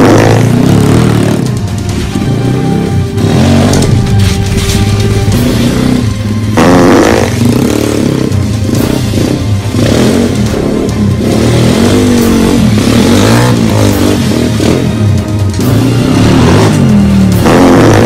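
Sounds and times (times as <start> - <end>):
background music: 0.0 - 18.0
motorcycle engine revving: 0.0 - 18.0.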